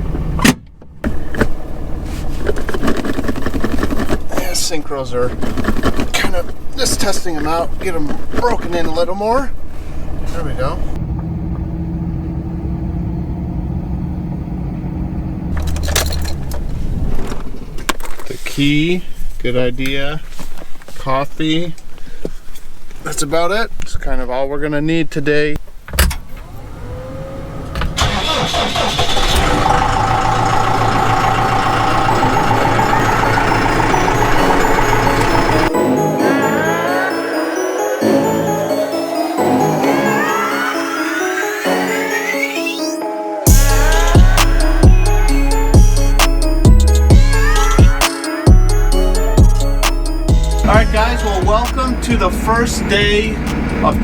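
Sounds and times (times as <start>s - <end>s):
vehicle engine rumbling: 0.0s - 19.6s, 25.6s - 42.0s, 43.4s - 54.0s.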